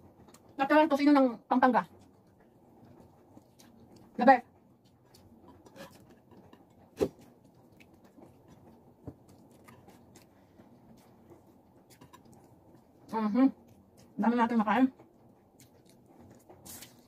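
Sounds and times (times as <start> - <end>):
faint chewing: 1.8 - 17.0.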